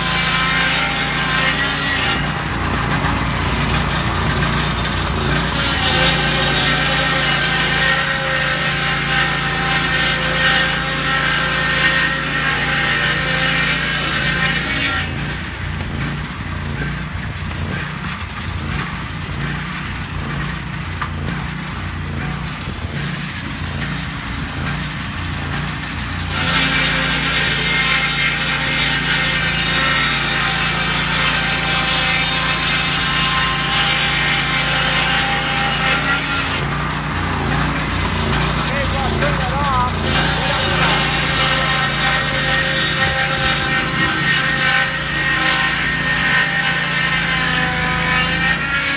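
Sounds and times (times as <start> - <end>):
circular blade sawing log: 0.0 - 48.9
sawmill engine running: 0.0 - 48.9.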